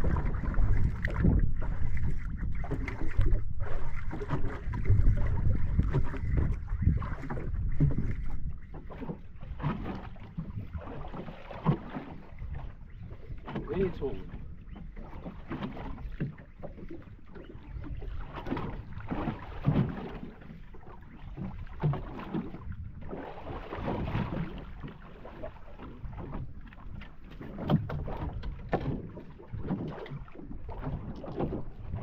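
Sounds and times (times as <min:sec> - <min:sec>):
water slapping against boat hull: 0:00.0 - 0:32.0
wind on microphone: 0:00.0 - 0:32.0.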